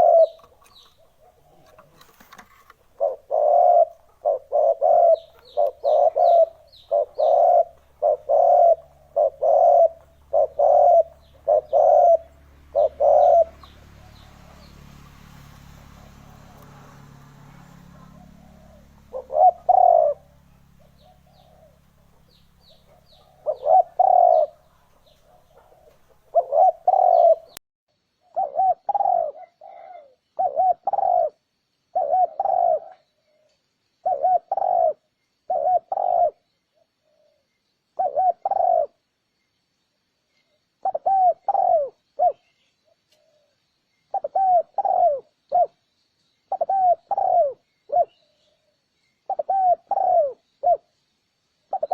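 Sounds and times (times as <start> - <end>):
dove cooing: 0.0 - 15.1, 15.8 - 27.6, 28.2 - 37.4, 38.0 - 39.0, 40.8 - 45.8, 46.5 - 50.9, 51.7 - 51.9
small bird chirping: 0.0 - 27.6, 28.2 - 51.9.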